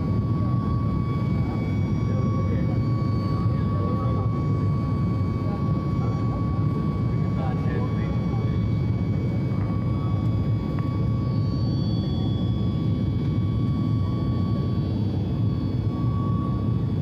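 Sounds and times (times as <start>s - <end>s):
airliner engine rumble in cabin: 0.0s - 17.0s
faint whining tones: 0.0s - 17.0s.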